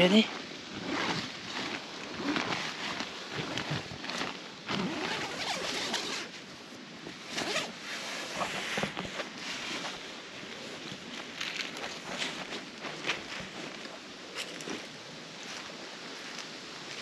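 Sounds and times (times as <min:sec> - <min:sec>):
tent zipper pulled open: 0:00.3 - 0:14.8.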